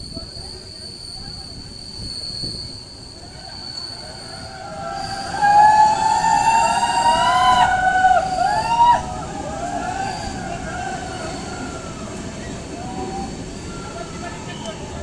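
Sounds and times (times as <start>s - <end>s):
metallic wheel squeal: 0.0s - 15.0s
train running: 0.0s - 15.0s.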